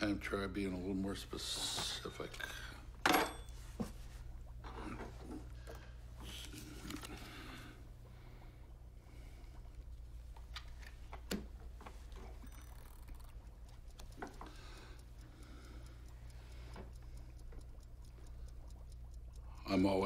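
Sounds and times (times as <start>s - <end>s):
faint clicks and ticks: 0.0s - 20.0s
steady low hum: 0.0s - 20.0s.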